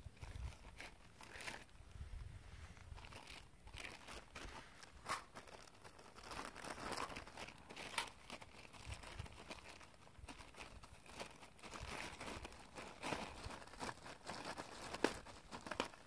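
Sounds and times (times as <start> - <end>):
plastic bag crinkling: 0.0 - 1.8, 2.8 - 16.0.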